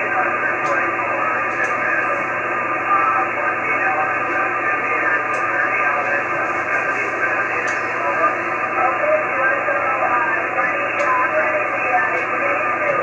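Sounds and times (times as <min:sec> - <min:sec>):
garbled radio voices: 0:00.0 - 0:13.0
radio hiss: 0:00.0 - 0:13.0.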